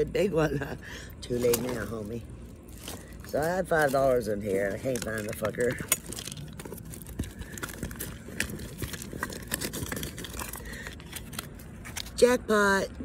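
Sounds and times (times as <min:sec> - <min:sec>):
rummaging through a purse: 0:01.3 - 0:12.4.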